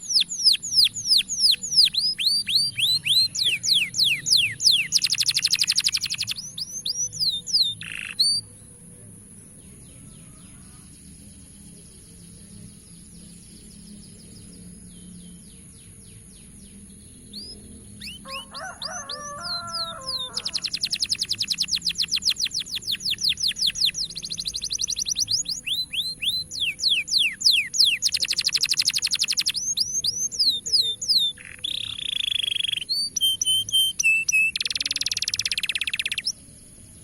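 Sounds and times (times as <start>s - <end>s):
canary singing: 0.0s - 8.9s, 12.1s - 36.5s.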